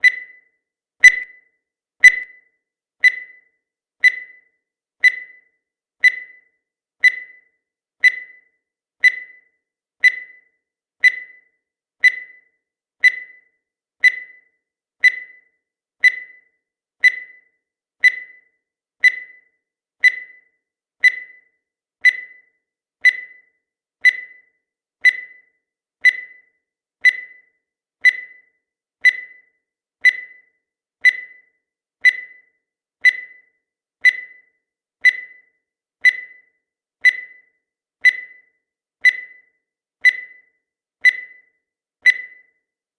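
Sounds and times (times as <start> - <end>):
high-pitched timer beeps: 0.0 - 42.7.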